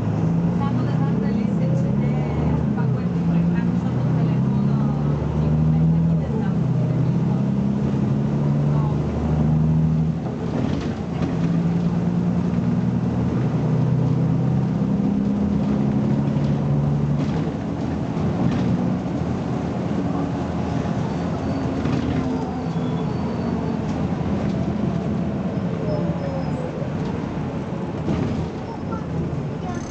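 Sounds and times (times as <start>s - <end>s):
bus diesel engine running: 0.0s - 29.9s.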